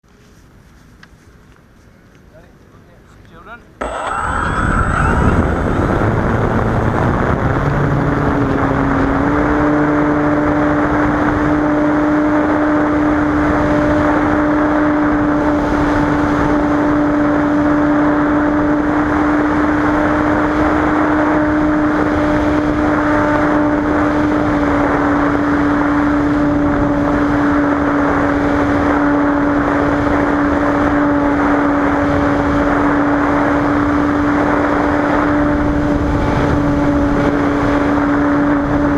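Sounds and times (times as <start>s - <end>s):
propeller plane engine drone: 0.1s - 38.9s.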